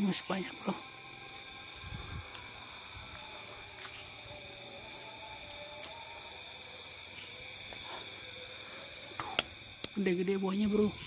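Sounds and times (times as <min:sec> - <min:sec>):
crickets and insects trilling: 0:00.0 - 0:11.0
rapid insect chirps: 0:00.0 - 0:11.0.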